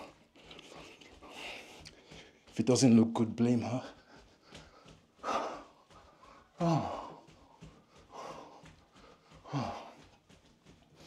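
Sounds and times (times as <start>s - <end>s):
man breathing hard: 0.0s - 2.5s, 3.8s - 11.0s
bare feet tapping wooden floor: 0.0s - 11.0s.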